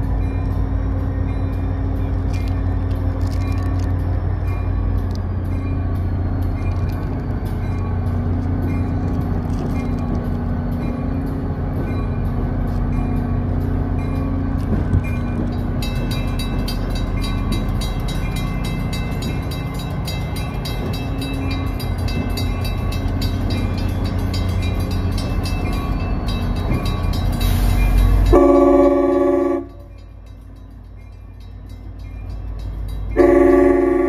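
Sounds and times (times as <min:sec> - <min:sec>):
crossing bells dinging: 0:00.0 - 0:34.0
diesel locomotive engine rumble: 0:00.0 - 0:34.0.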